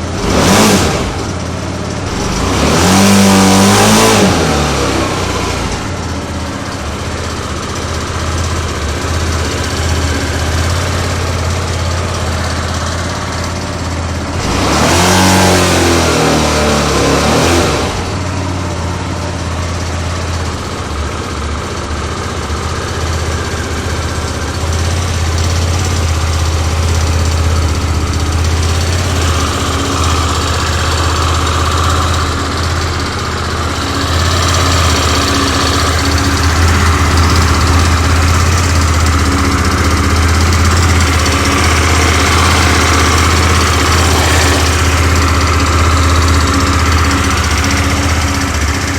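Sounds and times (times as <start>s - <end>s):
exhaust tapping rattle: 0.0s - 48.9s
motorcycle engine idling: 0.0s - 48.9s.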